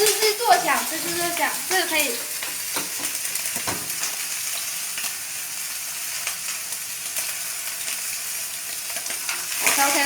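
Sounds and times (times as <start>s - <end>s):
steak sizzling in a pan: 0.0s - 10.0s.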